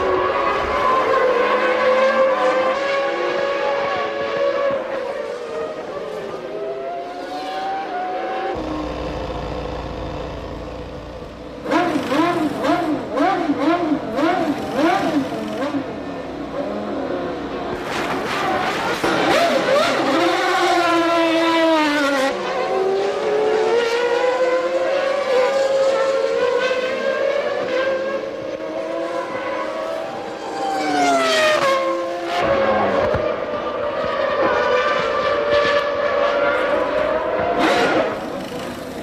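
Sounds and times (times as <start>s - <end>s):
racing car engines at high revs: 0.0s - 39.0s.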